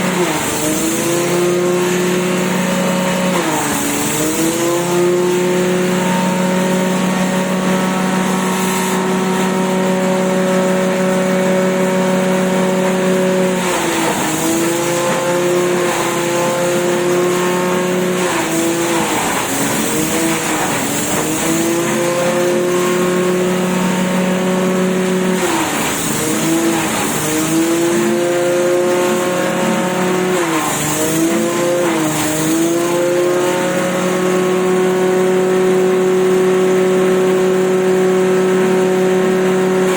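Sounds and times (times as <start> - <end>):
grass chopper motor running: 0.0 - 39.9.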